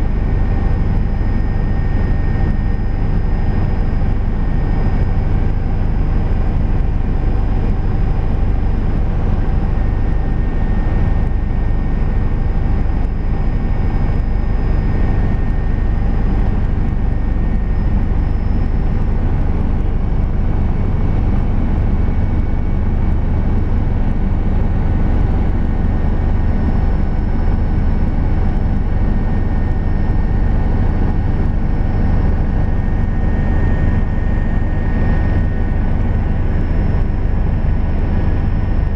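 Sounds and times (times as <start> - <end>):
faint high whine: 0.0 - 38.9
helicopter rotor and engine: 0.0 - 38.9.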